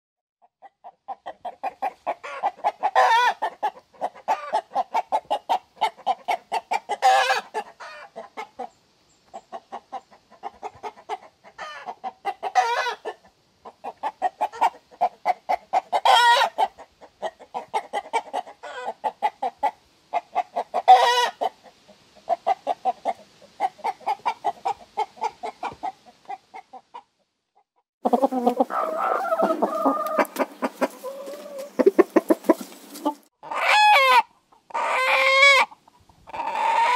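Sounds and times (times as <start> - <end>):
hens clucking: 0.5 - 27.1, 28.0 - 36.9
hen cackling: 0.6 - 8.7, 9.4 - 26.9, 28.0 - 36.9.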